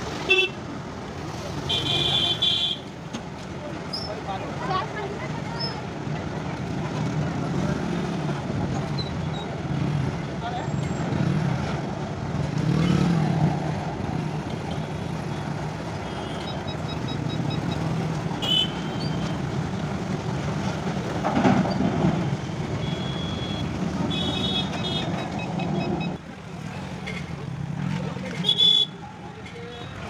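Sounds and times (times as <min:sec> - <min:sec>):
train wagons rumbling over bridge: 0:02.8 - 0:30.0.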